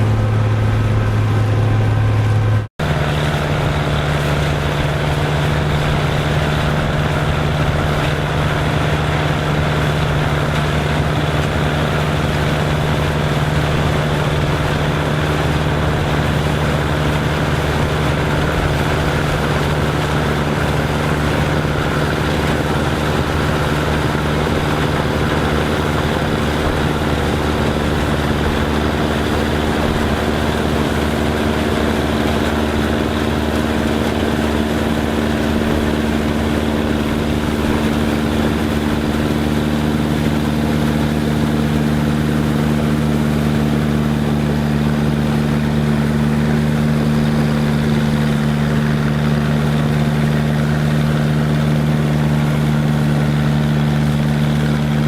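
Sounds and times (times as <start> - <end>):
farm machinery engine running: 0.0 - 55.0.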